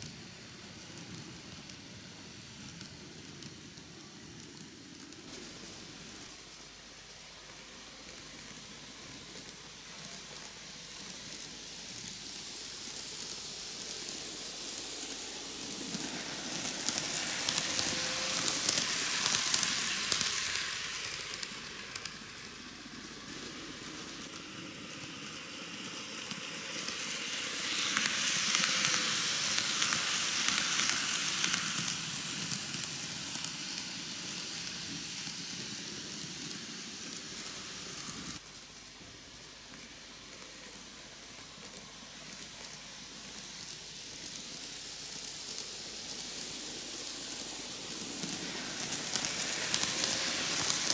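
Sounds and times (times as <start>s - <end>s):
model train wheels rattling: 7.2s - 38.4s, 39.8s - 50.9s.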